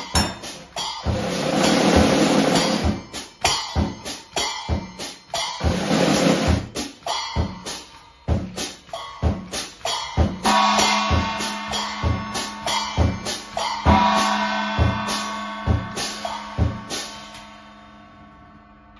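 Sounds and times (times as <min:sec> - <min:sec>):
cymbal crashes: 0:00.0 - 0:06.7, 0:09.2 - 0:18.8
bass drum and snare groove: 0:00.0 - 0:17.5.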